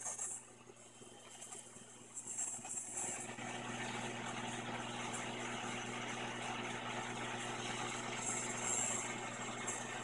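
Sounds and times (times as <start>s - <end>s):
low mains hum: 0.0s - 10.0s.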